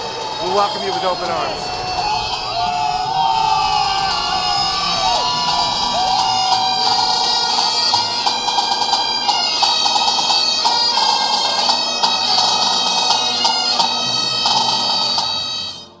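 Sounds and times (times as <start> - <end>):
bagpipe melody over drone: 0.0 - 2.6, 4.5 - 16.0.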